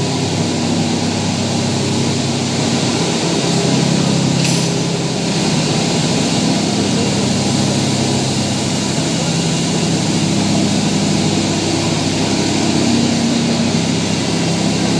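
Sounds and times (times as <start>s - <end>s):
mill machine droning: 0.0s - 14.9s.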